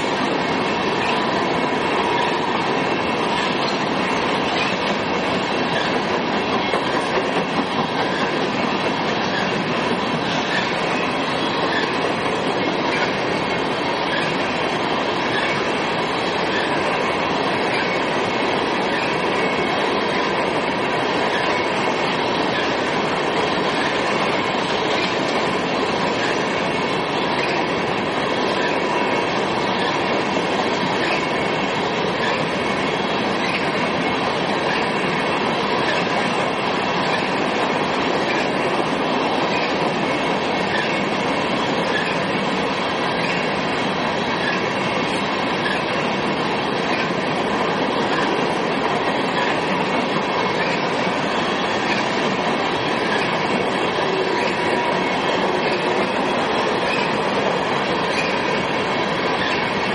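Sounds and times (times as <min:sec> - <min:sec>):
steel wheels rolling on rail: 0:00.0 - 0:59.9.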